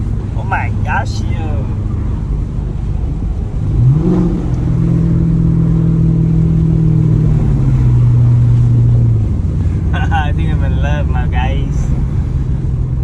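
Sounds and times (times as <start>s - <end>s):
car engine revving and droning: 0.0s - 13.0s.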